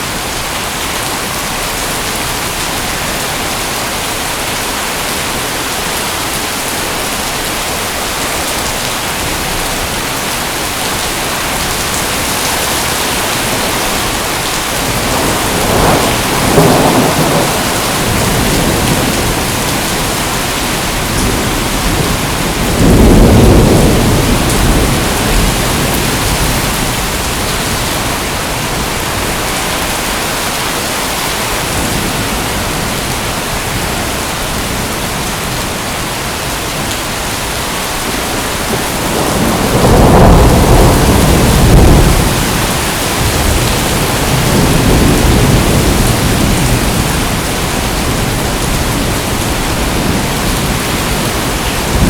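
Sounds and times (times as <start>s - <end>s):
heavy rain falling: 0.0s - 52.0s
thunder rumbling: 7.8s - 30.6s, 31.3s - 52.0s.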